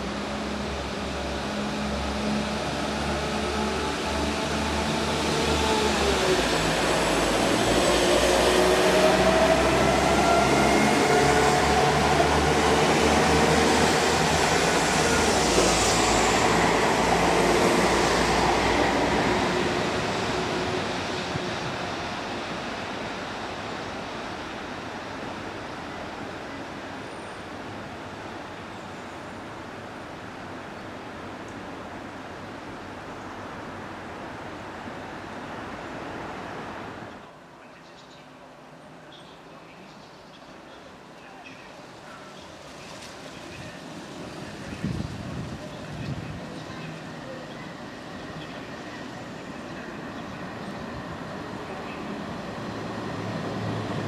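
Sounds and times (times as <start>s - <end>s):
diesel train passing: 0.0s - 37.5s, 40.6s - 54.0s.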